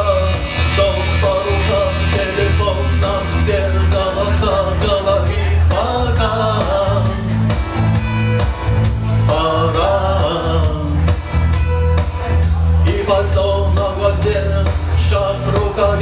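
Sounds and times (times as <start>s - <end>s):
rock band music: 0.0s - 16.0s.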